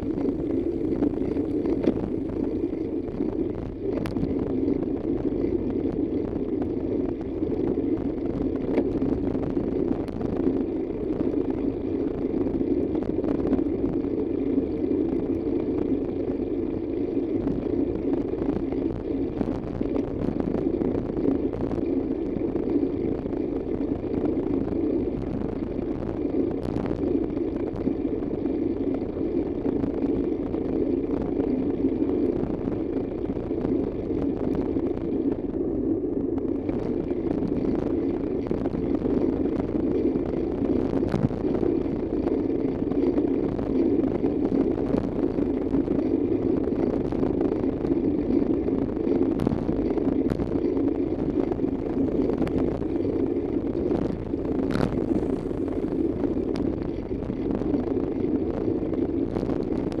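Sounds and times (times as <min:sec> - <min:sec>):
vehicle road and engine noise: 0:00.0 - 1:00.0.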